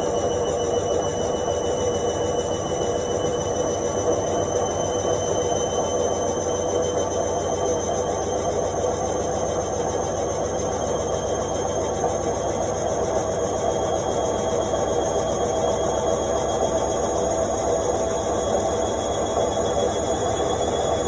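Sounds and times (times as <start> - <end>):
washing machine spin whirring: 0.0 - 21.0.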